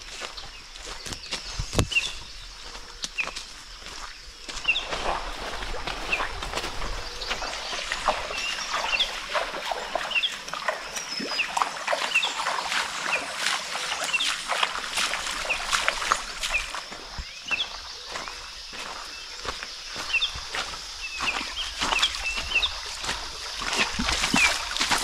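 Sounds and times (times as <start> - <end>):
footsteps crunching on a trail: 0.0 - 25.0.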